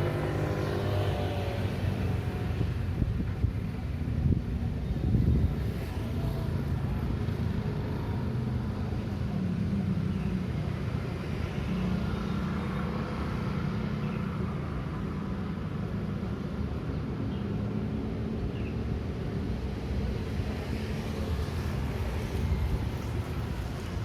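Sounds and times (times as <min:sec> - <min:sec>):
cars passing: 0:00.0 - 0:04.4, 0:05.0 - 0:24.0.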